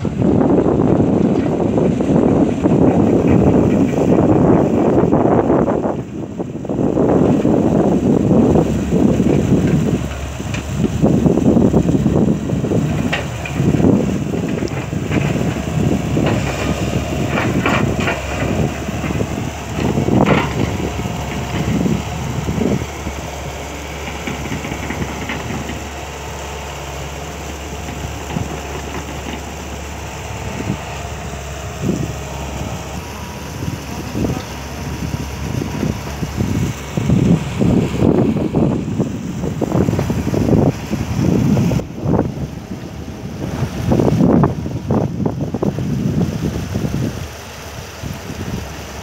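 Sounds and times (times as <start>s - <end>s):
excavator diesel engine working: 0.0s - 49.0s.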